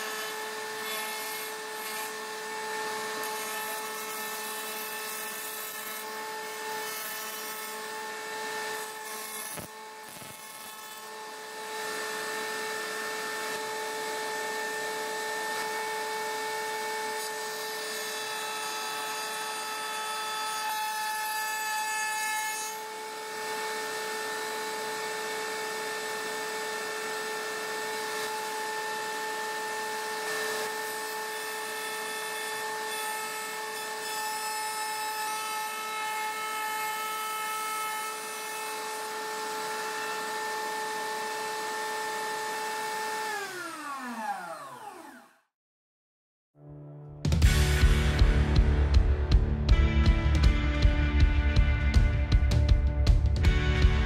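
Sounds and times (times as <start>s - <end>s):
router bit cutting chipboard: 0.0s - 45.4s
router whining: 0.0s - 45.5s.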